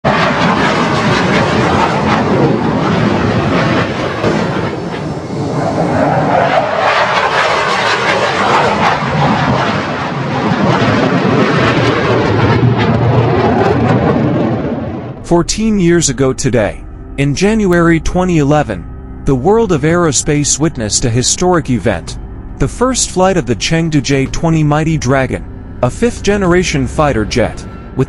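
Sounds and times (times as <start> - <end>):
jet roar: 0.0 - 28.0.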